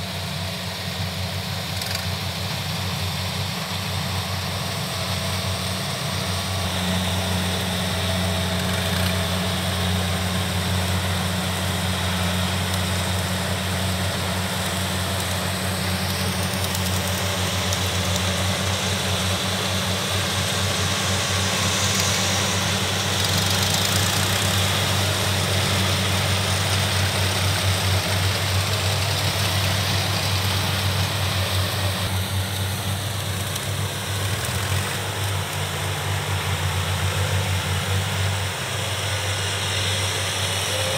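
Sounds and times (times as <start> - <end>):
diesel engine drone: 0.0 - 40.9
even hiss: 0.1 - 40.9.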